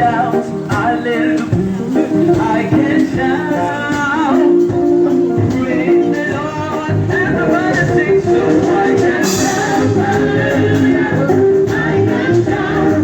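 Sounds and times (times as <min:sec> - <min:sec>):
person singing: 0:00.0 - 0:13.0
reggae gospel band playing: 0:00.0 - 0:13.0.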